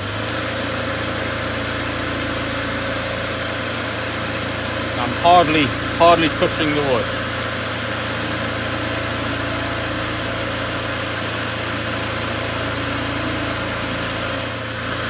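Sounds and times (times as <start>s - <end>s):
lathe knife cutting wood: 0.0s - 15.0s
wood lathe humming: 0.0s - 15.0s.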